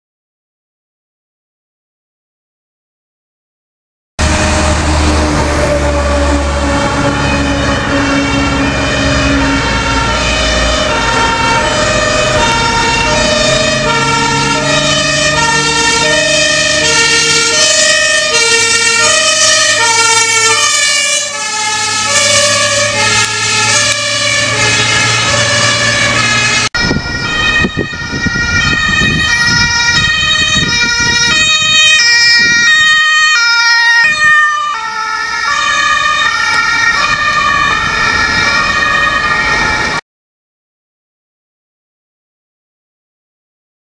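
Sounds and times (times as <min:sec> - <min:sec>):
diesel engine rumbling: 0:04.2 - 0:40.0
two-tone sirens: 0:04.2 - 0:40.0.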